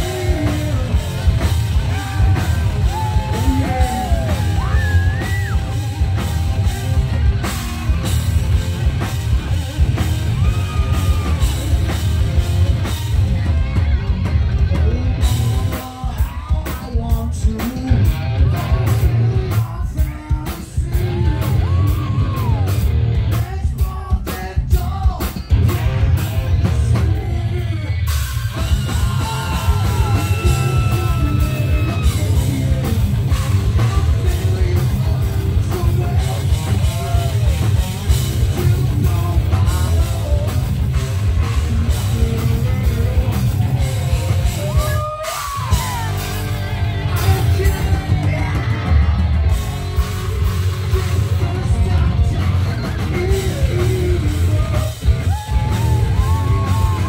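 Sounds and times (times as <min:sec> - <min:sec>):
person singing: 0:00.0 - 0:07.0, 0:14.6 - 0:57.0
bass guitar: 0:00.0 - 0:57.0
distorted electric guitars: 0:00.0 - 0:57.0
drum kit: 0:00.0 - 0:57.0.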